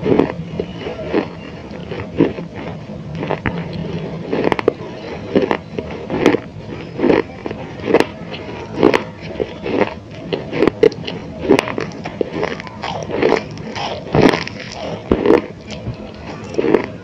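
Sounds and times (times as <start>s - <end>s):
chewing crunches: 0.0s - 17.0s.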